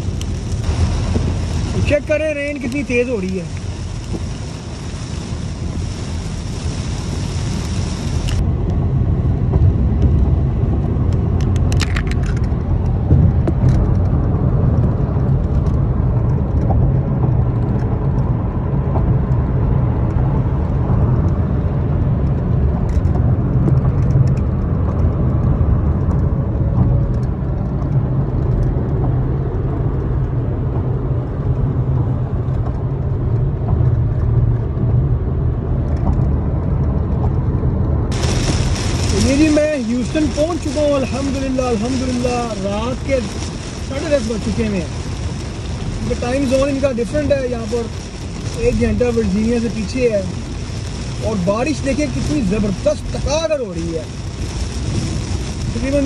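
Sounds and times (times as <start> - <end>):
car tyre and engine rumble: 0.0 - 56.0
rain hissing on windshield: 0.0 - 56.0.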